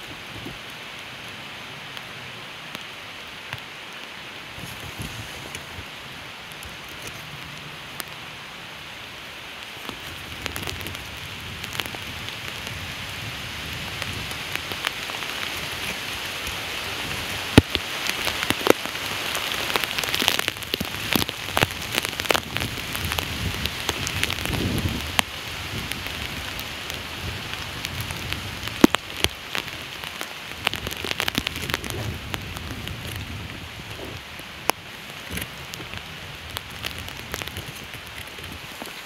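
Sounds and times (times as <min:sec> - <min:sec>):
rain falling: 0:00.0 - 0:39.0
raindrops ticking: 0:00.0 - 0:39.0.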